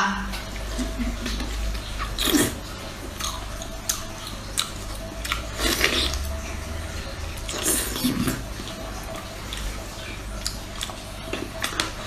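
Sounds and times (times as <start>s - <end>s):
chewing mouth sounds: 0.5s - 12.0s.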